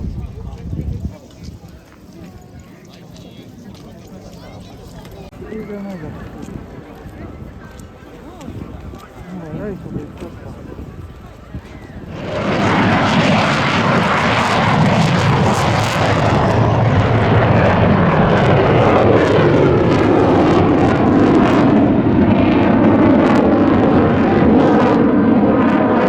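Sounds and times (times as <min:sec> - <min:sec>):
jet aircraft flying over: 0:02.8 - 0:26.0.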